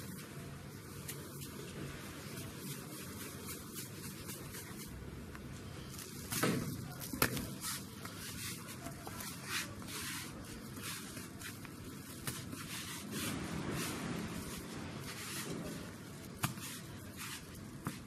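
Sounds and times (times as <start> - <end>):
sesame seeds rustling: 0.1 - 18.0.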